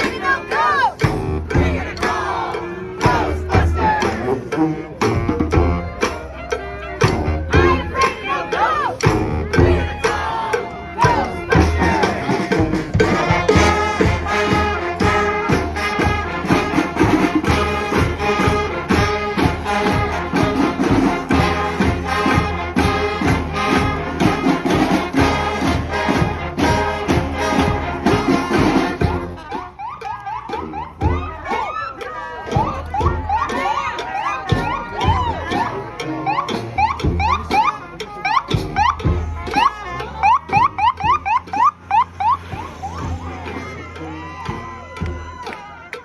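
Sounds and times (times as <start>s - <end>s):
brass band playing: 0.0s - 46.0s
steady drum beat: 0.0s - 46.0s.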